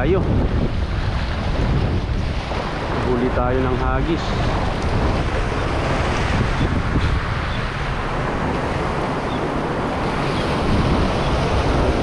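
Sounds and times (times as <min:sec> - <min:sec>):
waves breaking over rocks: 0:00.0 - 0:12.0
wind buffeting microphone: 0:00.0 - 0:12.0.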